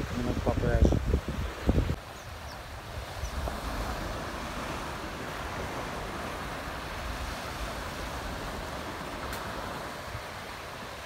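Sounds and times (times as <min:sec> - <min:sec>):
gentle surf on beach: 0:00.0 - 0:11.0
wind on microphone: 0:00.0 - 0:11.0.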